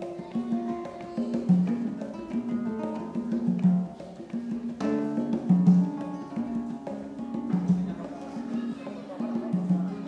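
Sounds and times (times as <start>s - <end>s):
conga hand-drum strokes: 0.0s - 10.0s
plucked guitar: 0.0s - 10.0s.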